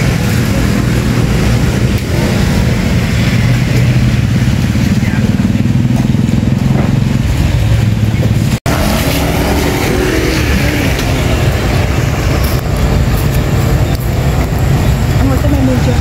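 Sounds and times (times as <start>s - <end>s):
roadside traffic hum: 0.0s - 16.0s.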